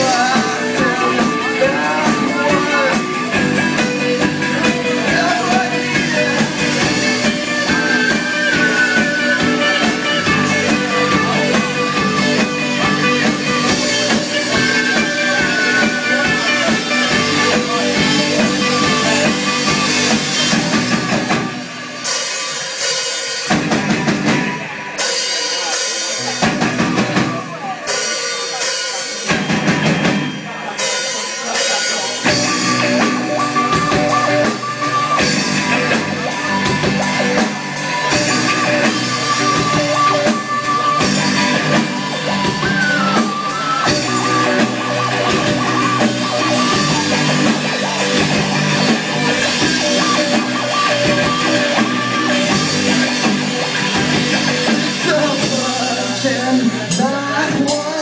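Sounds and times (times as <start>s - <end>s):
drum kit beat: 0.0s - 58.0s
electric guitars: 0.0s - 58.0s
keyboard: 0.0s - 58.0s.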